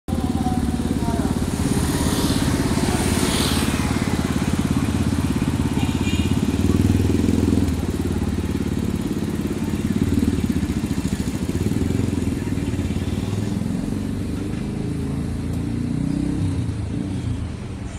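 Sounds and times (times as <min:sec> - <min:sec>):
vehicle engine running: 0:00.1 - 0:16.3.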